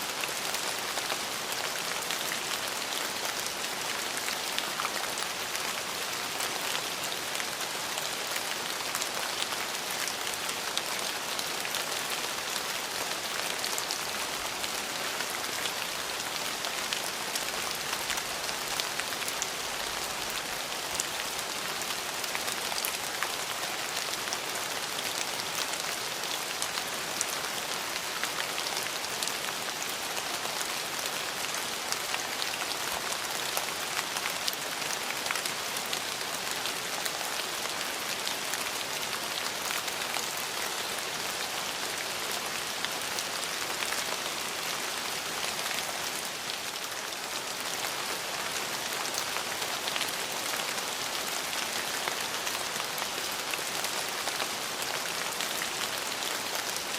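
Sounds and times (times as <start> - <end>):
raindrops ticking on surfaces: 0.1 - 56.9.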